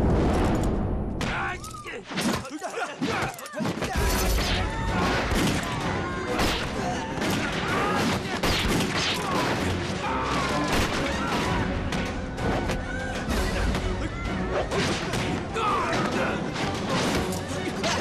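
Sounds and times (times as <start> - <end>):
people shouting and crying: 1.2 - 18.0.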